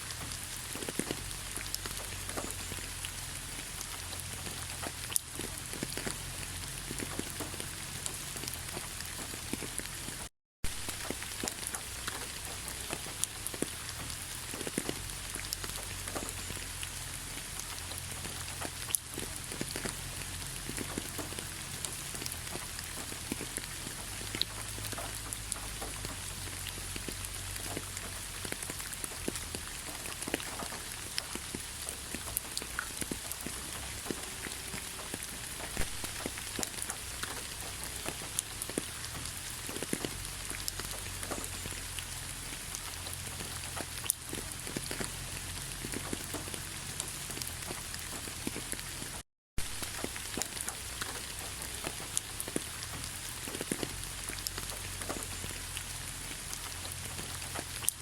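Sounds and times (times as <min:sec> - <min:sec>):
rain falling: 0:00.0 - 0:58.0
raindrops ticking close by: 0:00.0 - 0:58.0.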